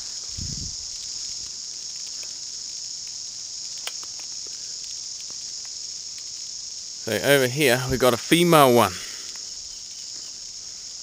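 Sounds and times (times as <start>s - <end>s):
cicadas buzzing drone: 0.0s - 11.0s.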